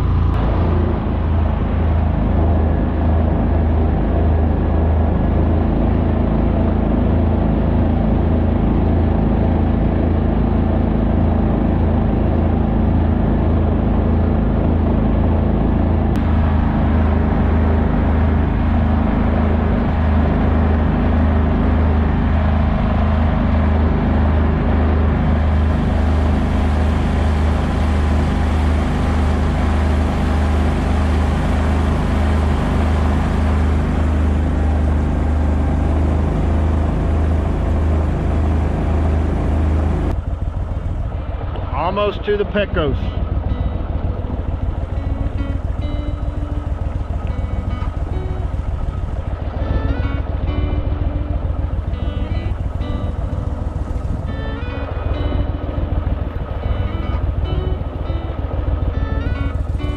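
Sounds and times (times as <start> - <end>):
boat motor droning: 0.0 - 59.9.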